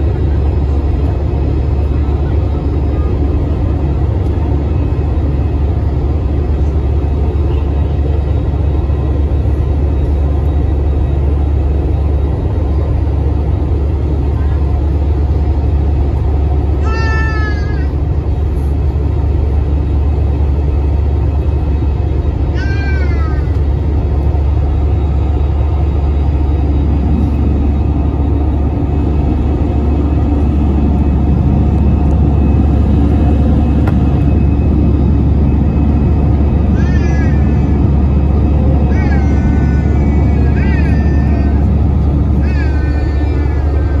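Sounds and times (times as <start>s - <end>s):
airliner cabin engine rumble: 0.0s - 44.0s.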